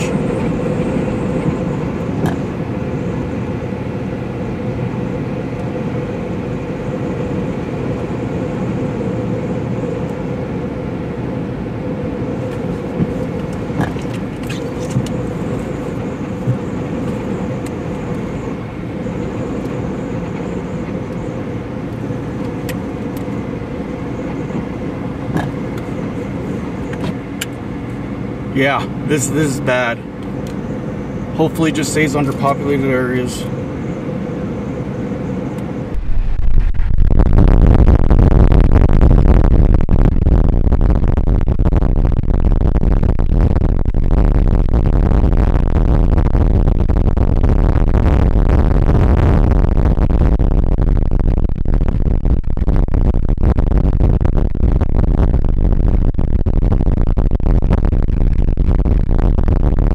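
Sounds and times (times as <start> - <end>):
car engine and road noise: 0.0 - 59.9
faint hum: 0.0 - 59.9.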